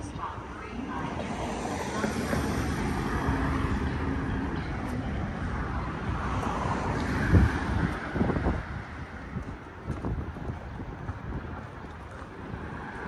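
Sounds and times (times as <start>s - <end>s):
traffic going by: 0.0s - 13.0s.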